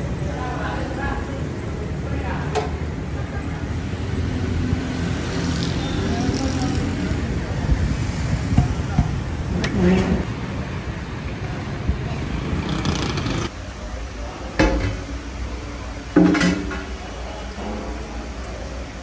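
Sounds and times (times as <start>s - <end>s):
low street rumble: 0.0s - 19.0s.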